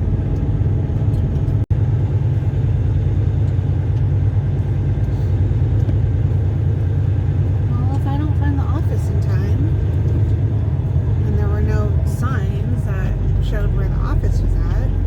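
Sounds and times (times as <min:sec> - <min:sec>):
road noise: 0:00.0 - 0:15.0
truck diesel engine rumble: 0:00.0 - 0:15.0.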